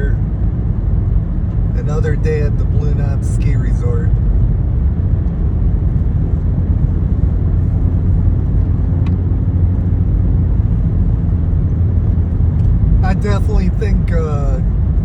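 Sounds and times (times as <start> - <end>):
car engine rumble: 0.0 - 15.0
tyre noise on road: 0.0 - 15.0.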